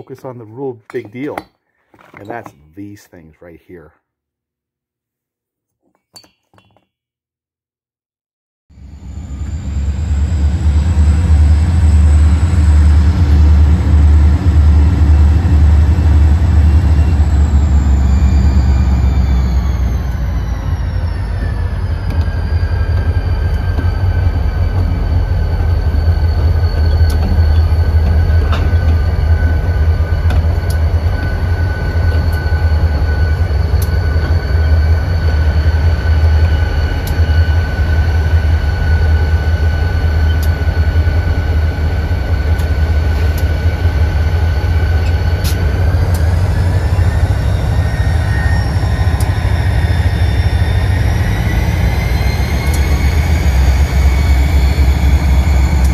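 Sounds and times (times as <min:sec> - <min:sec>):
diesel locomotive engine rumble: 0:08.7 - 0:55.9
high whine: 0:08.7 - 0:55.9.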